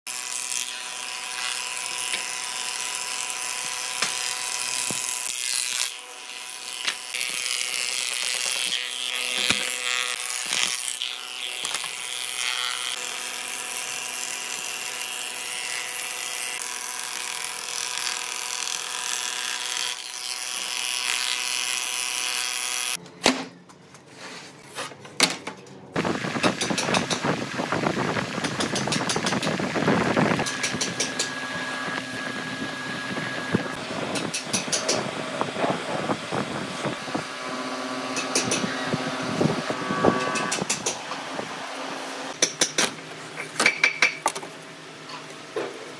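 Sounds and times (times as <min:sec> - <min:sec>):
wood planer whining: 0:00.1 - 0:23.0, 0:26.0 - 0:42.4.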